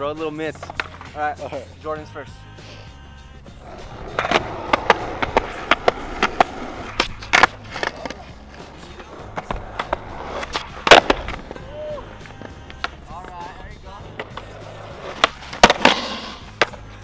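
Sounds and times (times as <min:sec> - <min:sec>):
skateboard wheels clacking on concrete: 0:00.4 - 0:01.6, 0:03.6 - 0:17.0
skateboard clatter: 0:00.6 - 0:01.2, 0:03.6 - 0:17.0.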